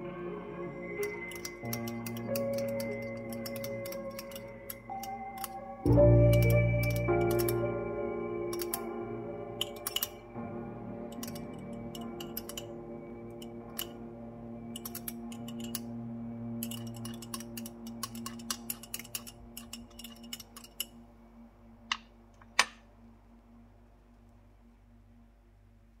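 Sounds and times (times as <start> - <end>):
soft background music: 0.0 - 26.0.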